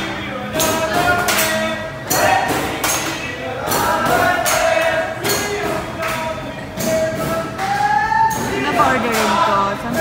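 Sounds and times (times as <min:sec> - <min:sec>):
group of voices singing: 0:00.0 - 0:10.0
sharp steady beat: 0:00.0 - 0:10.0.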